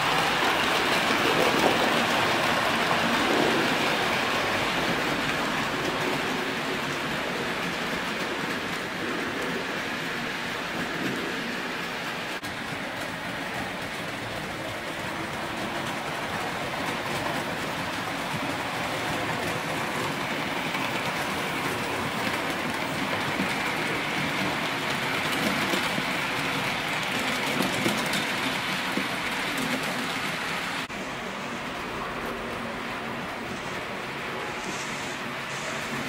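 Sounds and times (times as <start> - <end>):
model train wheels rolling on rails: 0.0 - 36.0.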